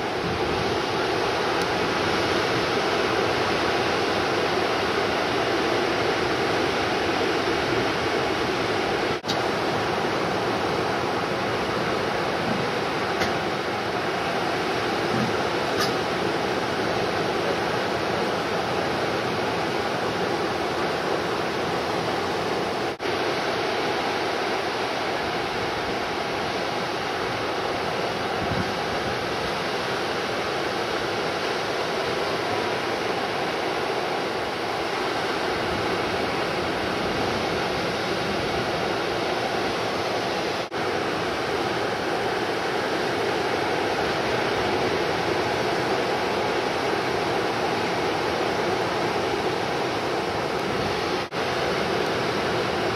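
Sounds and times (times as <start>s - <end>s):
ocean surf breaking: 0.0s - 52.9s.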